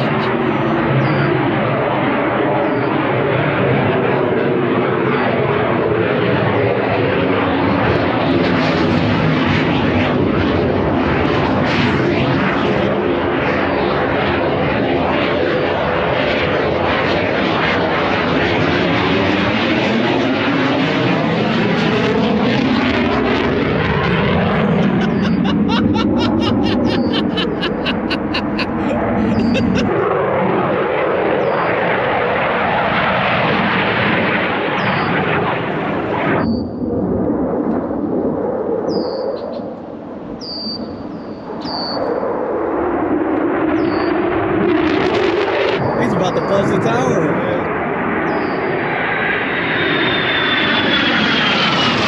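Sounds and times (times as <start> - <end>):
aircraft flying overhead: 0.0 - 52.0.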